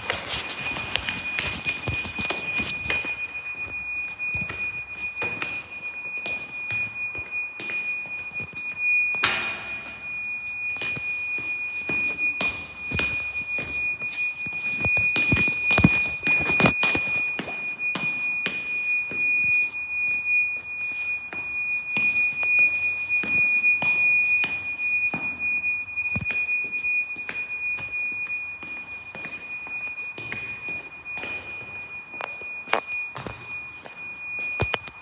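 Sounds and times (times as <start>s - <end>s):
high-pitched electronic beeping: 0.0s - 35.0s.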